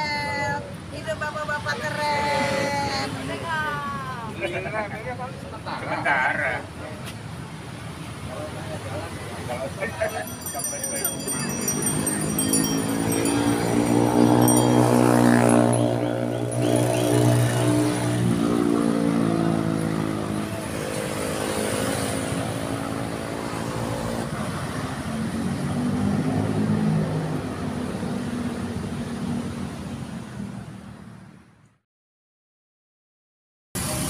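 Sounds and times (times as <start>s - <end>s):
motorcycle and car engines passing: 1.8s - 31.6s.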